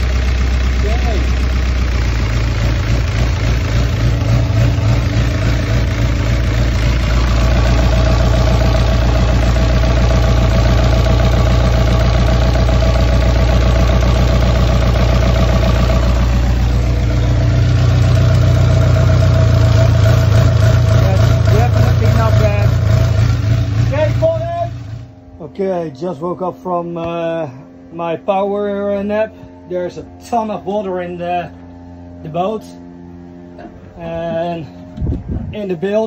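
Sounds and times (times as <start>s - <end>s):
diesel engine idling: 0.0s - 36.0s.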